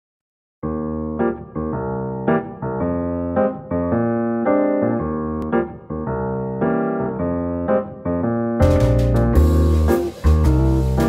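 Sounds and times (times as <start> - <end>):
piano chords: 0.6 - 11.0.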